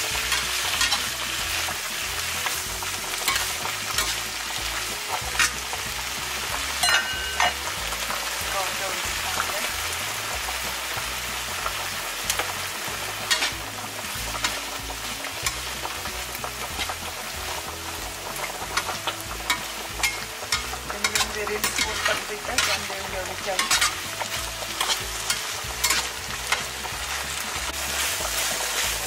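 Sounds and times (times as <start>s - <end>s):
metal spatula scraping a pan: 0.0s - 7.8s, 11.2s - 29.0s
shrimp sizzling in a frying pan: 0.0s - 29.0s.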